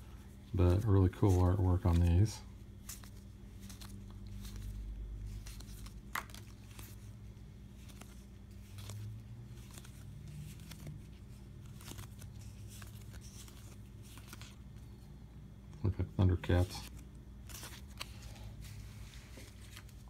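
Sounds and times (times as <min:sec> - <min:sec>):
cardboard cards being shuffled: 0:00.0 - 0:15.0, 0:16.2 - 0:20.0
low steady hum: 0:00.0 - 0:20.0.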